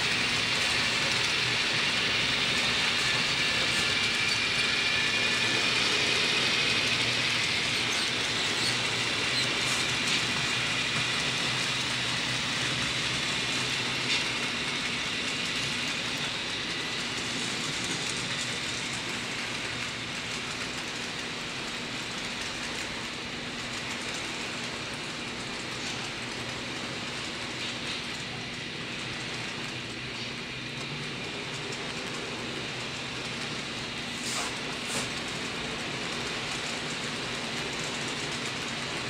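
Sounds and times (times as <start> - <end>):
model train wheels rattling: 0.0 - 39.0.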